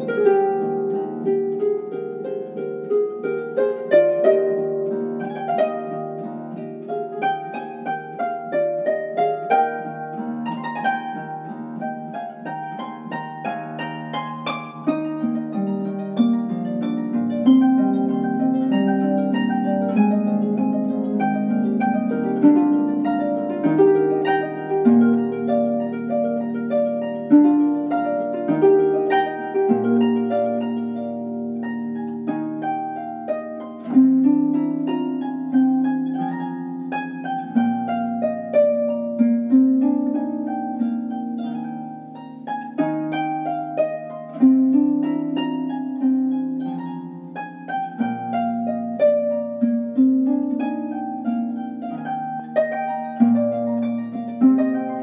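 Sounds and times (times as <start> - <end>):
harp playing classical sonata: 0.0 - 55.0.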